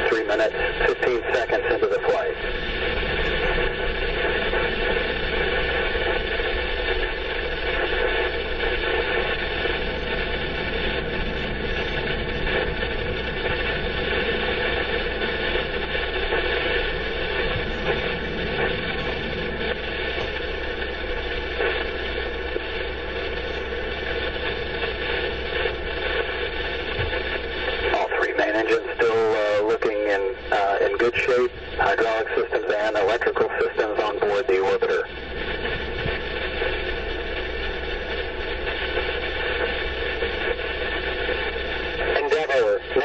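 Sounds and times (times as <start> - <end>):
low rumble: 0.0 - 43.0
steady hum and hiss: 0.0 - 43.0.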